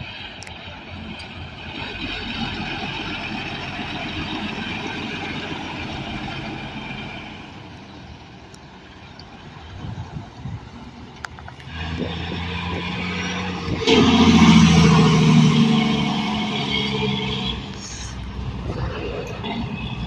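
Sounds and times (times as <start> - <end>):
road vehicle passing: 0.0 - 20.0.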